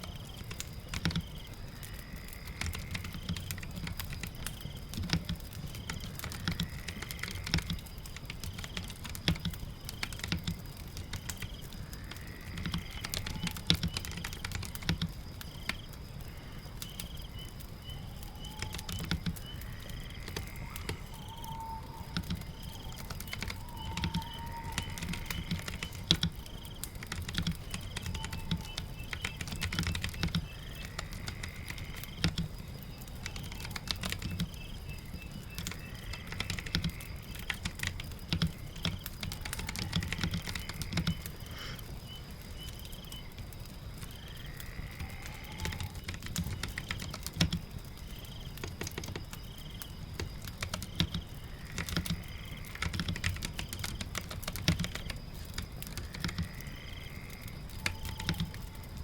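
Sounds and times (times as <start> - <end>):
rain pattering: 0.0 - 59.0
keyboard typing: 2.4 - 15.9, 16.8 - 34.7, 35.4 - 41.4, 45.0 - 47.6, 48.2 - 56.8, 57.6 - 59.0.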